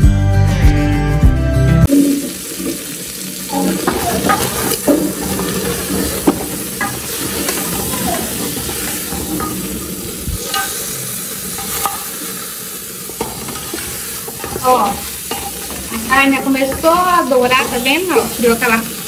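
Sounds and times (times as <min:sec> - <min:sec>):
meat sizzling in a pot: 0:01.9 - 0:19.0
spatula scraping a pot: 0:03.5 - 0:19.0.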